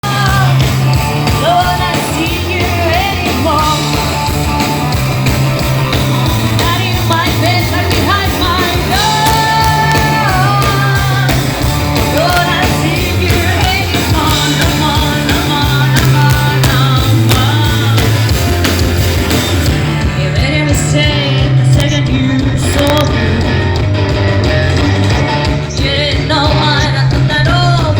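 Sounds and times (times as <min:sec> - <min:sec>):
lead singer's voice: 0:00.0 - 0:04.9, 0:05.8 - 0:27.9
bass line: 0:00.0 - 0:27.9
live rock band playing: 0:00.0 - 0:27.9
steady drums: 0:00.0 - 0:27.9.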